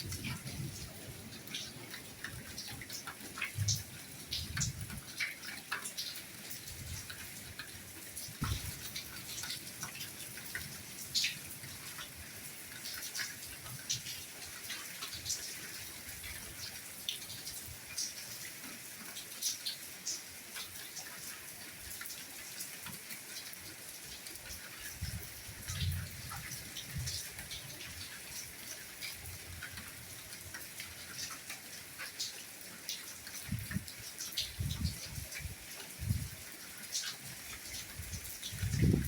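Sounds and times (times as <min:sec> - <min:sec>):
raindrops ticking: 0:00.0 - 0:39.0
soft rainfall hiss: 0:00.0 - 0:39.0.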